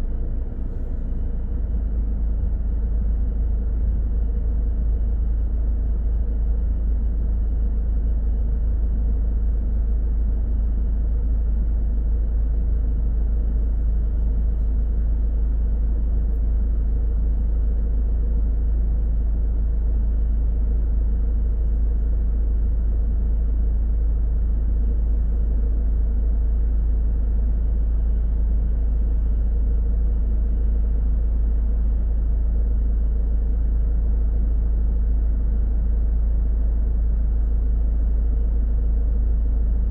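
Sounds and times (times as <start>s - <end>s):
faint constant hum: 0.0s - 39.9s
road and engine rumble: 0.0s - 39.9s.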